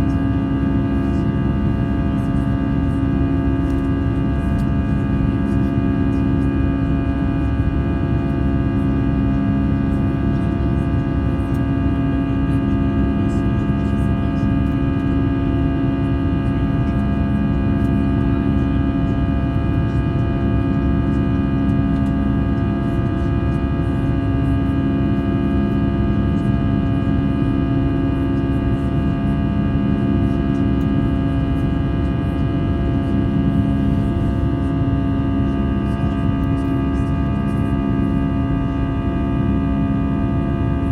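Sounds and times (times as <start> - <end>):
airplane cabin drone: 0.0 - 40.9.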